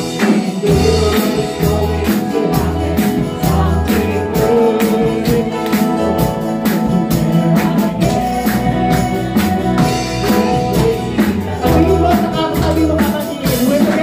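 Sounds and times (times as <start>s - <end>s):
congregation singing along: 0.0s - 14.0s
praise band playing worship song: 0.0s - 14.0s
steady drum beat: 0.0s - 14.0s.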